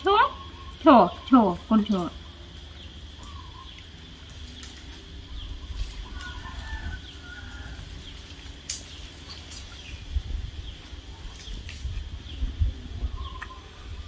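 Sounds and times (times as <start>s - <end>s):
birds chirping: 0.0s - 14.0s
soft clucking bird calls: 0.1s - 14.0s.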